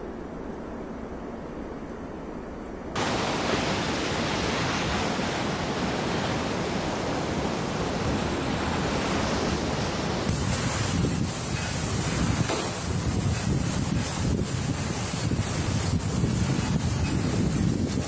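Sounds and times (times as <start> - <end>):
rushing water: 3.0 - 18.0
storm wind rushing: 3.0 - 18.0.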